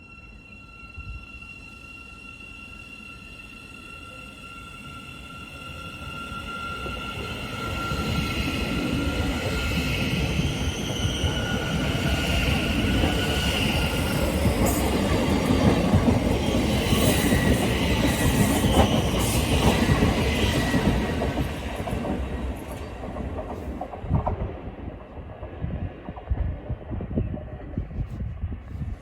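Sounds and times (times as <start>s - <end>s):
train wheel squeal: 0.0s - 24.0s
train rumbling over rails: 4.2s - 29.0s.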